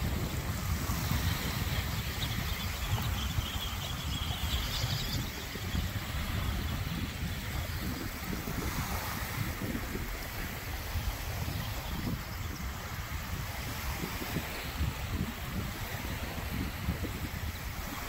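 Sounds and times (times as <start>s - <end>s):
small waves washing onto beach: 0.0s - 18.0s
wind buffeting microphone: 0.0s - 18.0s.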